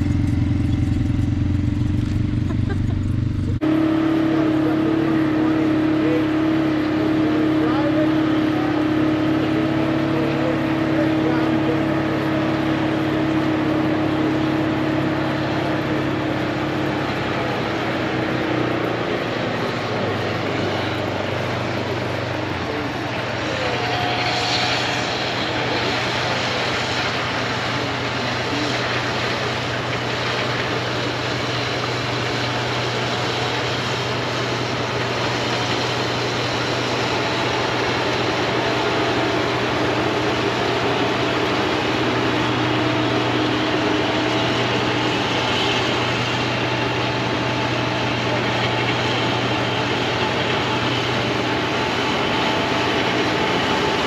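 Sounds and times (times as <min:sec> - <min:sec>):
atv engine running: 0:00.0 - 0:54.0
rushing noise: 0:00.0 - 0:54.0.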